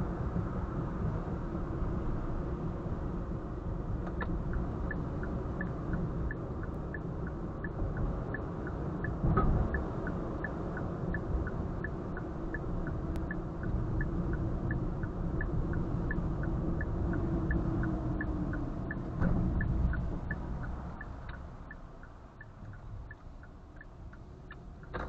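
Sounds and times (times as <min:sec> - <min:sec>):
engine and tyre rumble: 0:00.0 - 0:25.0
faint regular ticking: 0:04.1 - 0:25.0.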